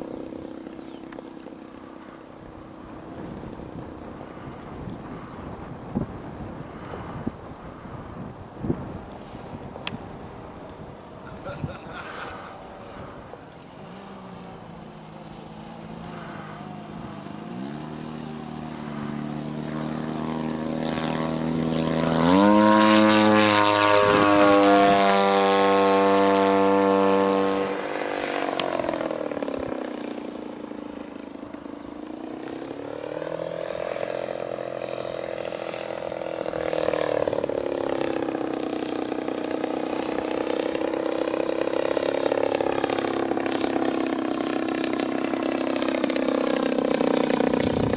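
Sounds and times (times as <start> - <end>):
model airplane engine and propeller: 0.0 - 47.9.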